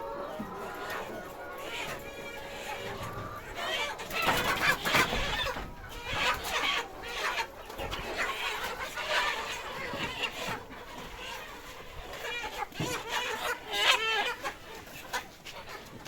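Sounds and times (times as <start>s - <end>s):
hens calling in chorus: 0.0s - 16.0s.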